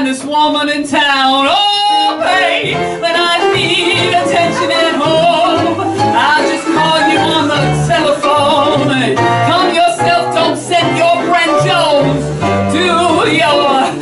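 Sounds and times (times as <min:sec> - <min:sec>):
live instrumental backing: 0:00.0 - 0:14.0
woman singing into a microphone: 0:00.0 - 0:14.0.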